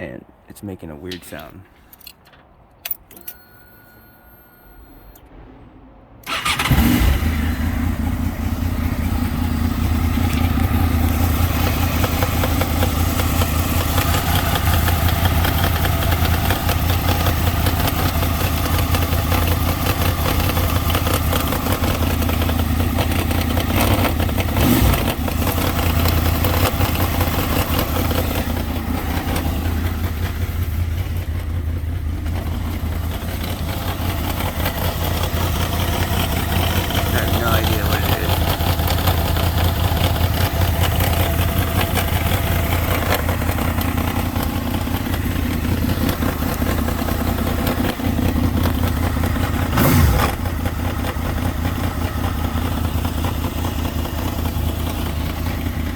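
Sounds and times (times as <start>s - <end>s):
motorcycle engine starting: 2.0s - 55.9s
engine idling with rattling knock: 7.7s - 55.9s.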